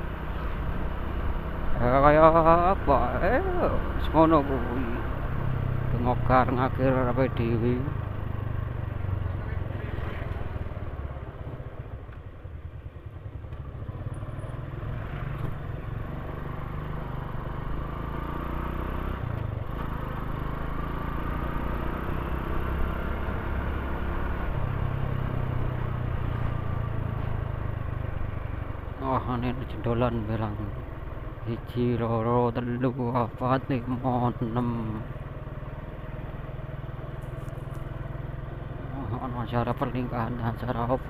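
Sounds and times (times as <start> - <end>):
motorcycle engine drone: 0.0 - 41.0.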